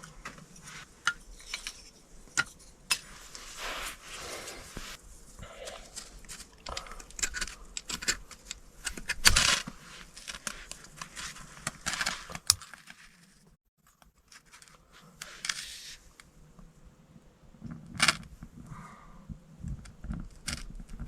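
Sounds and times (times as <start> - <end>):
rustling scraping and clicking: 0.0 - 16.3, 19.6 - 21.0.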